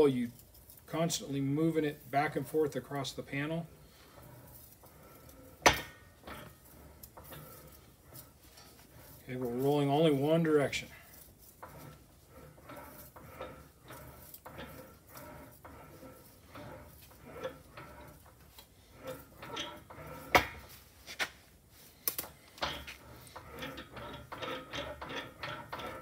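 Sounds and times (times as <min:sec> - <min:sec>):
metal rolling scrape in wheel: 0:00.0 - 0:26.0.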